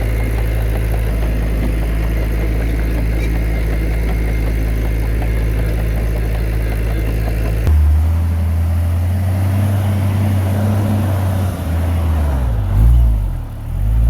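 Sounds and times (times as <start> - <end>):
heavy diesel engine revving: 0.0 - 14.0.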